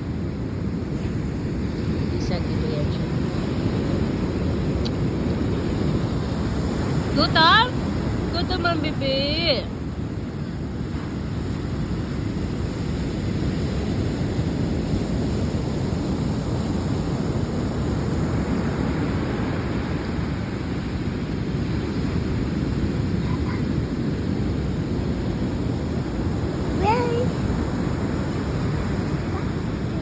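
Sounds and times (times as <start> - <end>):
ocean surf: 0.0 - 30.0.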